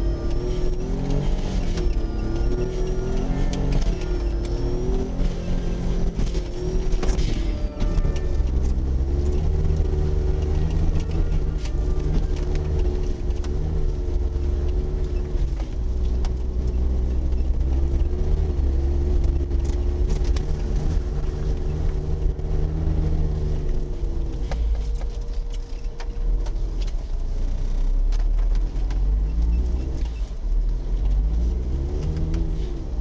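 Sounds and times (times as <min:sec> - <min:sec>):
small car engine running: 0:00.0 - 0:33.0.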